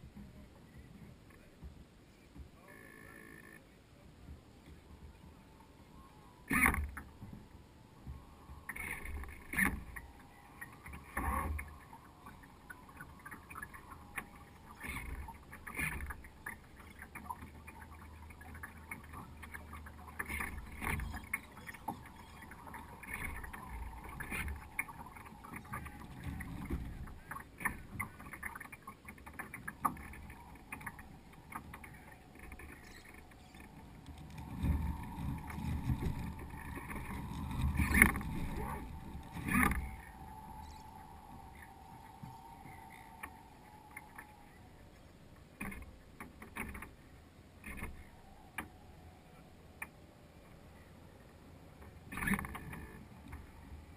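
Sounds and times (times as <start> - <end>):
low water rushes: 0.0 - 53.9
water lapping against hull: 4.3 - 53.9.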